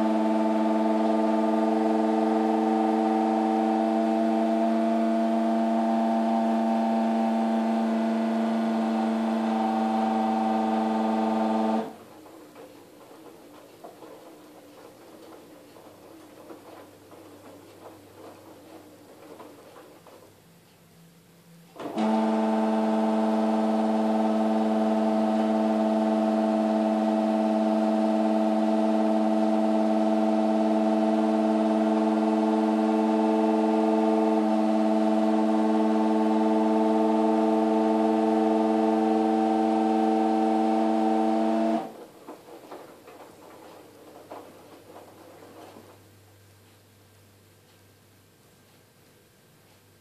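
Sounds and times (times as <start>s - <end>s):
washer dryer droning hum: 0.0s - 50.0s.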